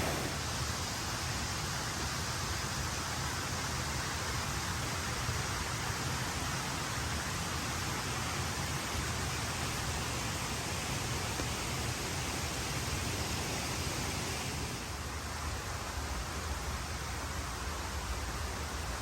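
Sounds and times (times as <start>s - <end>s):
river rushing over rapids: 0.0s - 19.0s.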